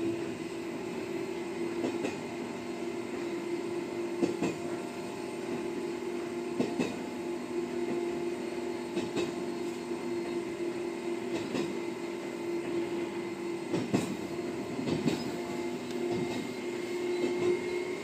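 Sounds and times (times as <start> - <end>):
electric railcar humming: 0.0 - 18.0.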